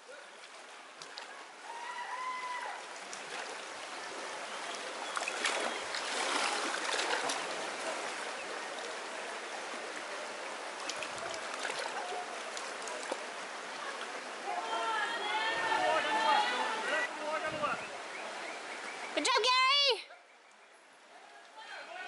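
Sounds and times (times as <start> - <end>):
river current over riffle: 0.0 - 22.0.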